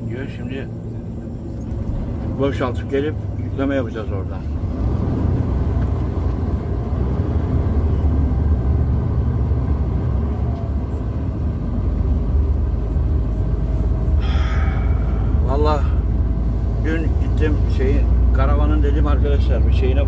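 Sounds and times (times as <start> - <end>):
road noise: 0.0 - 20.0
truck diesel engine rumble: 0.0 - 20.0.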